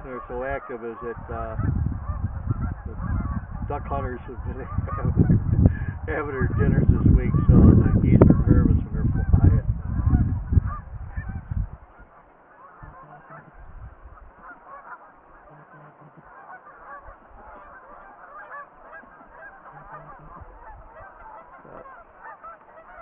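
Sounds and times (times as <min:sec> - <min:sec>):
geese honking: 0:00.0 - 0:23.0
low rumble on microphone: 0:00.0 - 0:23.0.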